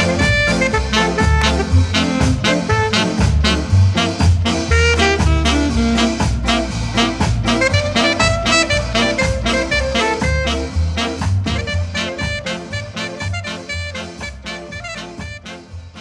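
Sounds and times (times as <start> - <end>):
reggae music with heavy bass: 0.0 - 16.0.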